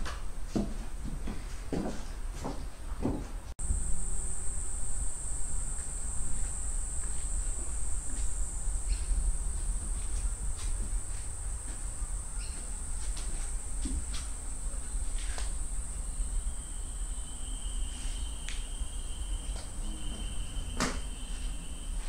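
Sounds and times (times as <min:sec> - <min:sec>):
insects droning: 0:03.6 - 0:22.0
low rumble: 0:03.6 - 0:22.0.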